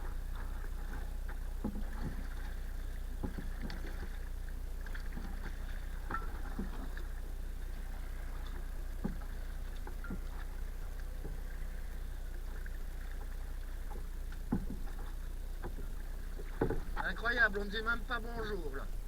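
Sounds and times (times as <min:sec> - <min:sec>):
paddle splashes and knocks: 0:00.0 - 0:19.0.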